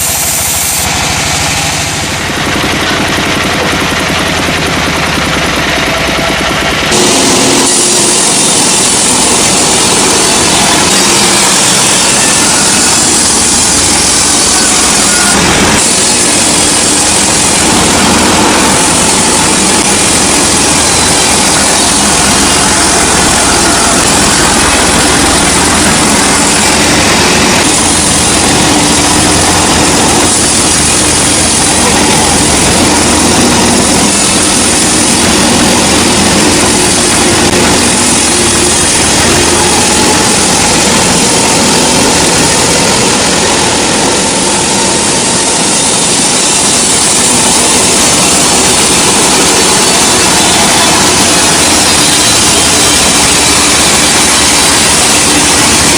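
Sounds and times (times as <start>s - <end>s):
sawmill engine and saw noise: 0.0s - 55.9s.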